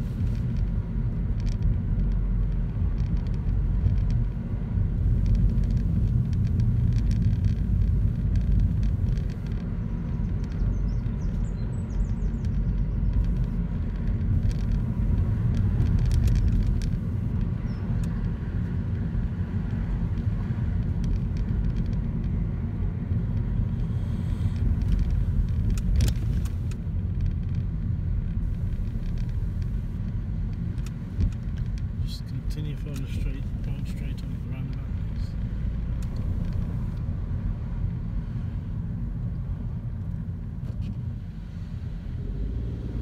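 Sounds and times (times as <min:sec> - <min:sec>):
car cabin rumble: 0:00.0 - 0:43.0.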